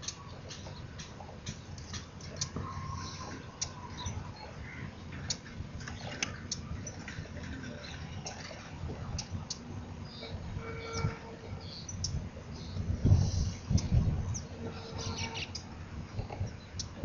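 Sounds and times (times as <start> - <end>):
small birds chipping: 0.0 - 17.0.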